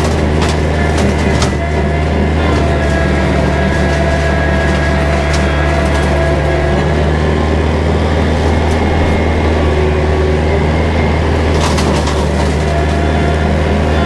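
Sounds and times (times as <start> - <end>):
tractor engine running: 0.0 - 14.0
burst of crackling: 0.9 - 14.0.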